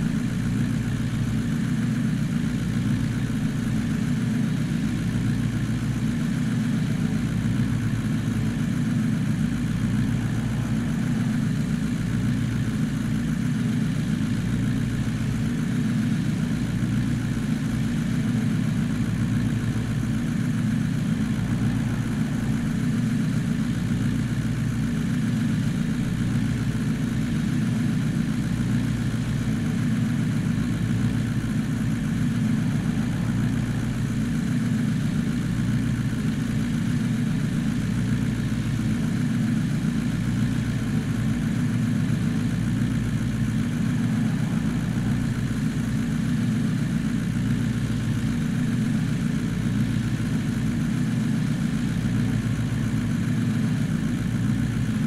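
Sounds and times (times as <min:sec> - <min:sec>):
vehicle engine running steadily: 0:00.0 - 0:55.0.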